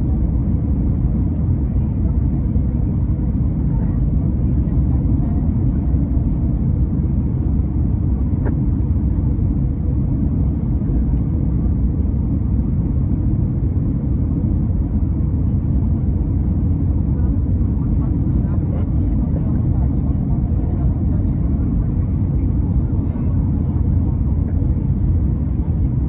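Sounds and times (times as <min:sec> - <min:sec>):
airliner cabin engine and airflow: 0:00.0 - 0:26.0.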